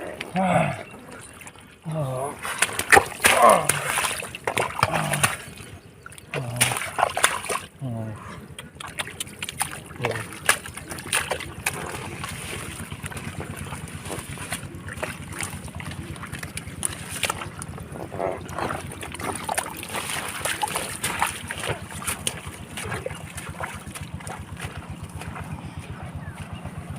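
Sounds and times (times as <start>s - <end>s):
water splashing and sloshing: 0.0s - 26.9s.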